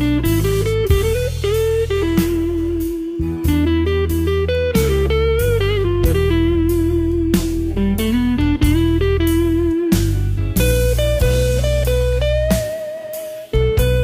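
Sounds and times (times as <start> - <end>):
bass: 0.0 - 14.0
electric slide guitar: 0.0 - 14.0
steady beat: 0.0 - 14.0.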